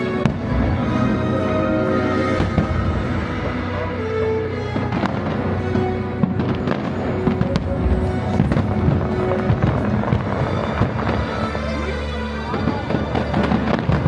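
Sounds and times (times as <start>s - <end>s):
fireworks bangs: 0.0s - 3.9s, 4.8s - 11.7s, 12.5s - 14.0s
music: 0.0s - 14.0s.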